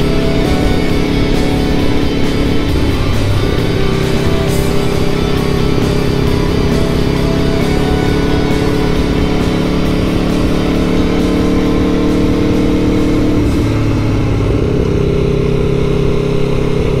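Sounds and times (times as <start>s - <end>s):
background music: 0.0s - 17.0s
motorcycle engine running: 0.0s - 17.0s.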